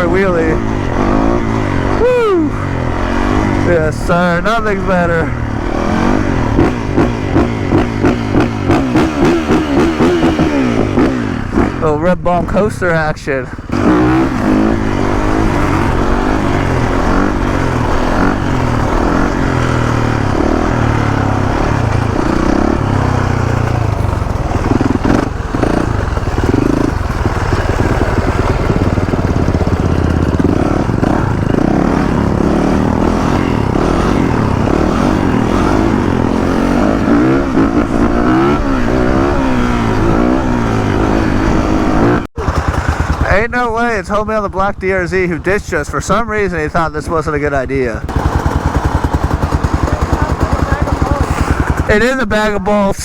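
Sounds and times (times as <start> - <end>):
motorcycle engines revving: 0.0 - 53.0.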